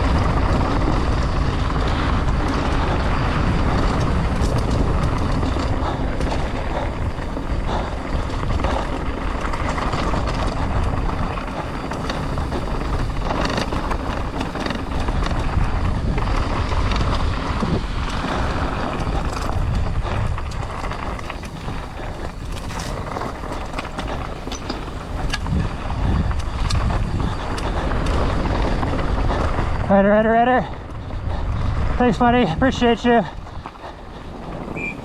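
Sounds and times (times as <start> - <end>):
bike rattles and knocks: 0.0 - 29.6, 32.7 - 35.0
bike tyre and trail noise: 0.0 - 35.0
wind on microphone: 0.0 - 35.0.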